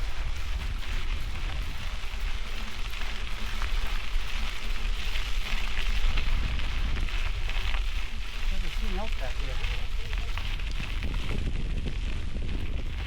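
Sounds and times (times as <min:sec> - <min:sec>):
bike tyres crunching on gravel: 0:00.0 - 0:13.0
wind rumbling on microphone: 0:00.0 - 0:13.0.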